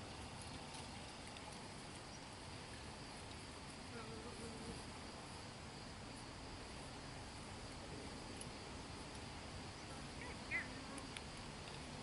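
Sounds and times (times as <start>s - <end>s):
insects trilling: 0.0s - 12.0s
open-air background hiss: 0.0s - 12.0s.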